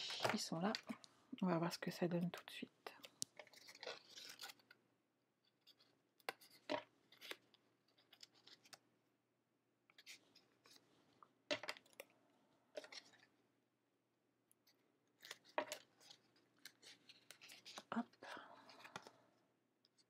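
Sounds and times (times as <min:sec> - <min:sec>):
crackles and clicks of handling: 0:00.0 - 0:09.0, 0:09.8 - 0:13.4, 0:14.4 - 0:20.0.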